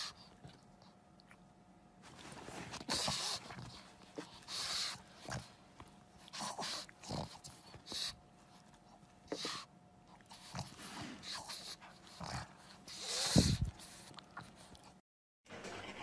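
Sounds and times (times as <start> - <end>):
dog's noisy nasal breaths: 2.1 - 16.0.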